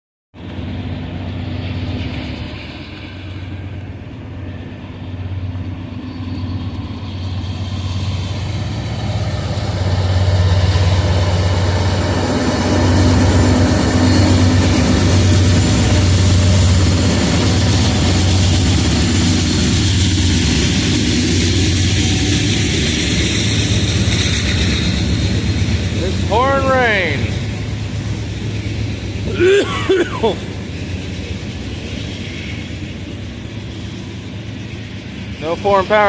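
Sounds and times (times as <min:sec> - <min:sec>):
diesel locomotive engine drone: 0:00.4 - 0:36.0.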